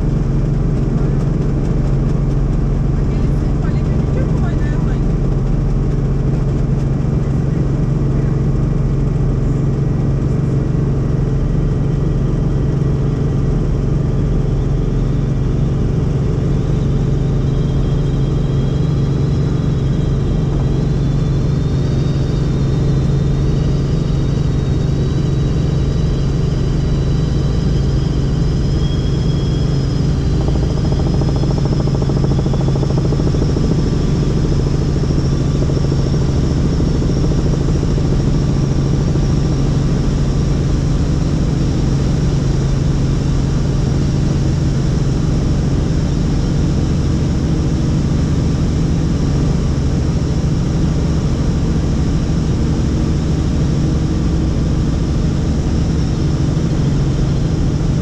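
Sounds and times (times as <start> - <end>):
helicopter rotor and engine drone: 0.0 - 58.0
faint high whine: 7.2 - 58.0.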